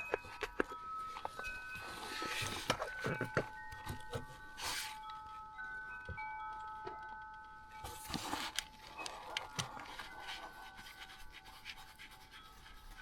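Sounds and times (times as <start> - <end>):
faint steady ringing tones: 0.0 - 13.0.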